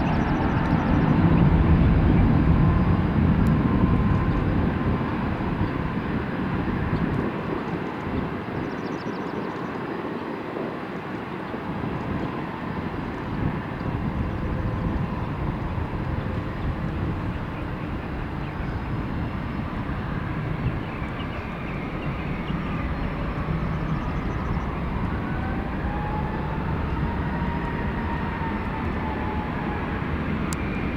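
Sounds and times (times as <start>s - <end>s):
jet engine noise: 0.0s - 30.9s.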